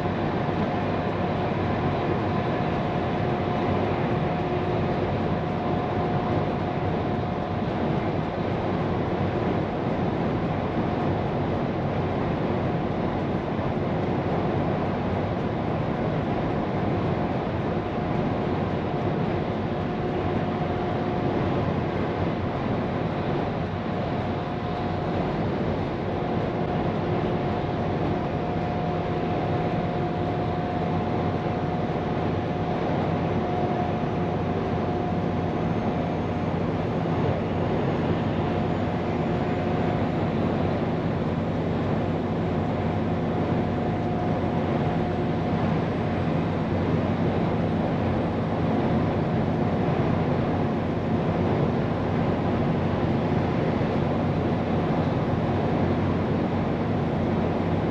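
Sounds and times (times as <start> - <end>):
thin steady whine: 0.0 - 57.9.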